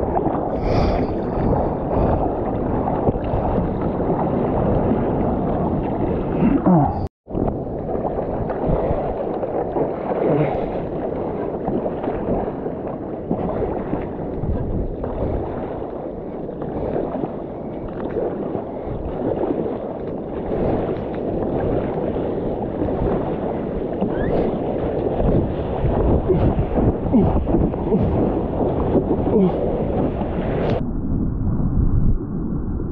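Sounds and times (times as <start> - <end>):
seawater splashing and lapping: 0.0 - 30.8
wind buffeting microphone: 0.0 - 32.9.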